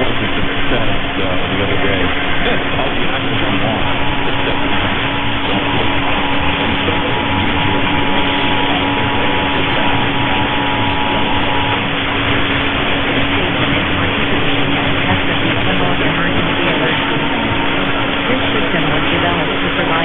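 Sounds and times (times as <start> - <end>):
radio static hiss: 0.0 - 20.0
steady low tone: 0.0 - 20.0.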